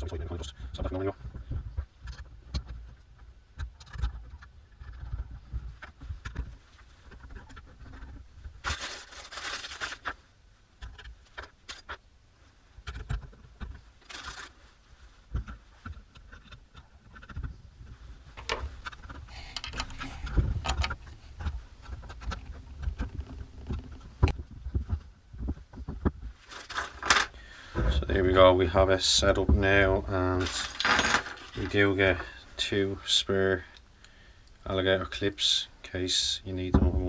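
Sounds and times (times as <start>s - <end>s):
scraping and rustling: 3.7s - 33.6s.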